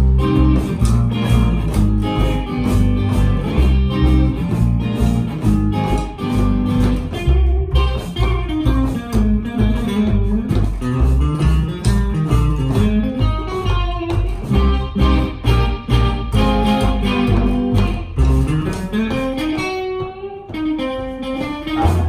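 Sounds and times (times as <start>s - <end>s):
double bass plucking: 0.0s - 22.0s
electric guitar: 0.0s - 22.0s
electronic drum beat: 0.0s - 22.0s.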